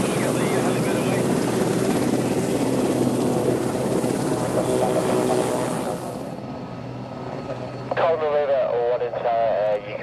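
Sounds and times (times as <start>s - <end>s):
aircraft engine rushing hum: 0.0s - 10.0s.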